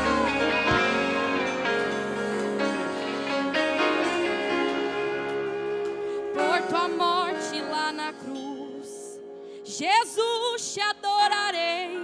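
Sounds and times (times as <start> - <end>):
slow worship song: 0.0 - 12.0.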